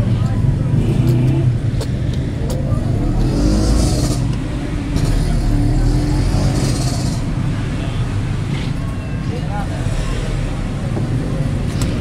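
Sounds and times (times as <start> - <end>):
passing vehicles engine rumble: 0.0 - 12.0.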